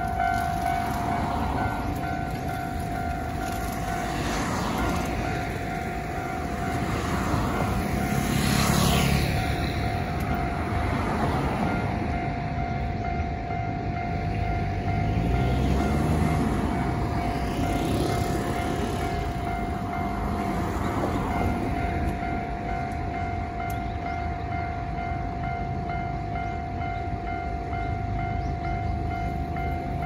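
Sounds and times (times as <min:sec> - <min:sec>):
level crossing alarm ringing: 0:00.0 - 0:30.0
road traffic passing: 0:00.0 - 0:30.0.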